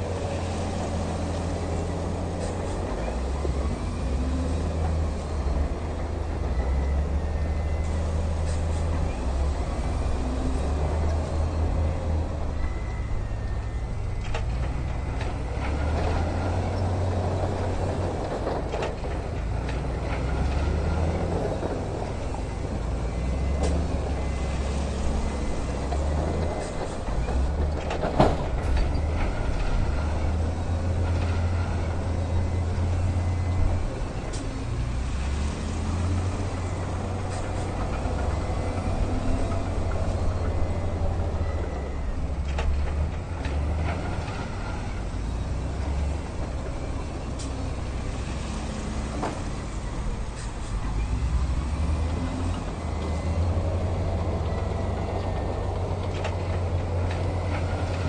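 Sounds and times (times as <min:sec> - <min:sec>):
diesel machinery rumbling: 0:00.0 - 0:58.0.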